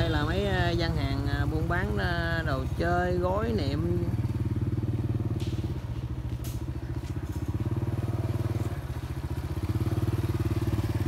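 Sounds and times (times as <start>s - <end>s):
small motorcycle engine idling: 0.0s - 11.0s.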